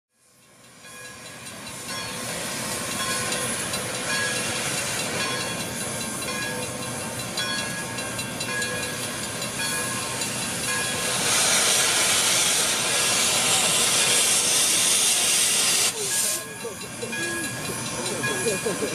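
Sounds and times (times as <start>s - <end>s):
steam hissing from locomotive: 0.2s - 18.9s.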